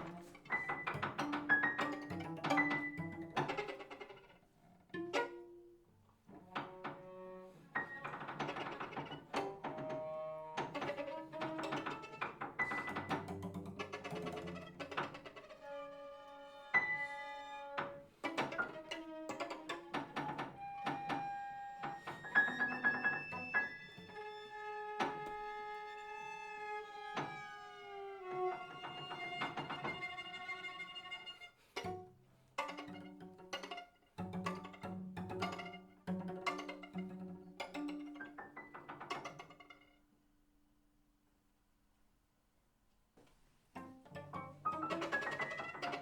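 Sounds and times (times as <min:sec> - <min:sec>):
held string notes: 0:00.0 - 0:39.9, 0:43.8 - 0:46.0.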